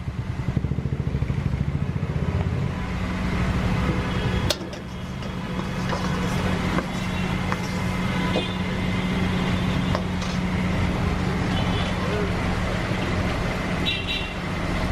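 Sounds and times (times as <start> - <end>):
mechanical hum: 0.0 - 14.9
street traffic: 0.0 - 14.9.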